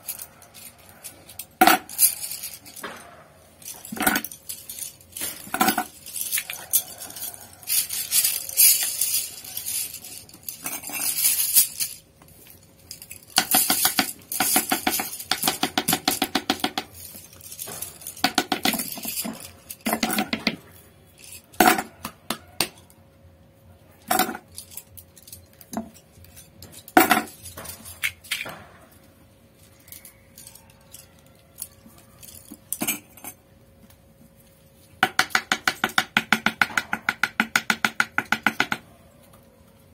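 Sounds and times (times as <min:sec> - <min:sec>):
metal tools clinking on wood: 0:00.0 - 0:22.9, 0:24.0 - 0:33.6.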